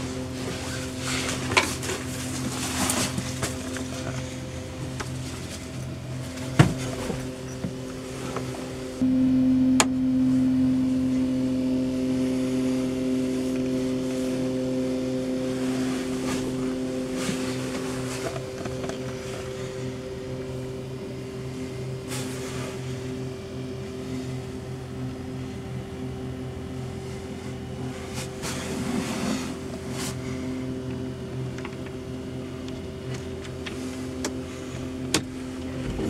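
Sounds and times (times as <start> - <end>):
droning hum of held tones: 0.0 - 36.0.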